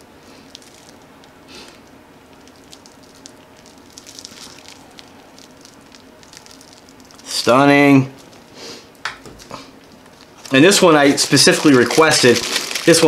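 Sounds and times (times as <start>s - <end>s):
low steady hum: 0.0s - 13.0s
plastic wrap crinkling: 0.3s - 8.6s, 9.2s - 13.0s.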